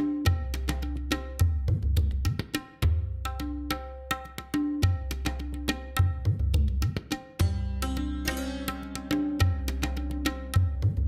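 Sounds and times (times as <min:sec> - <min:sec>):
wood block percussion hits: 0:00.0 - 0:11.0.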